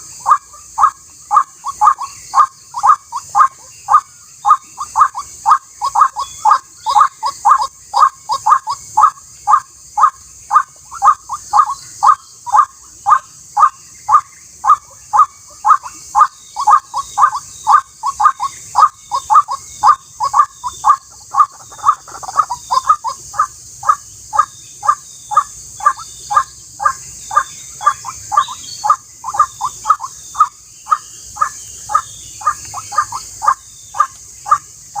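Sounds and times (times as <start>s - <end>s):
steady high hiss: 0.0s - 35.0s
waterhen calling: 0.0s - 35.0s.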